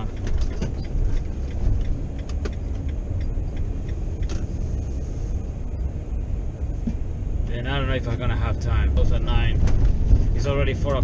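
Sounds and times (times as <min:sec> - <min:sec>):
vehicle road and engine rumble: 0:00.0 - 0:11.0.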